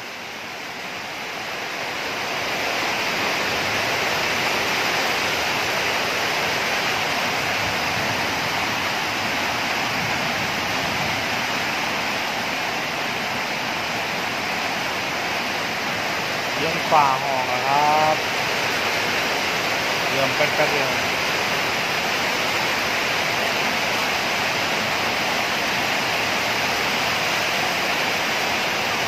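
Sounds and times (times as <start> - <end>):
heavy rain pouring: 0.0 - 29.0
strong wind: 0.0 - 29.0.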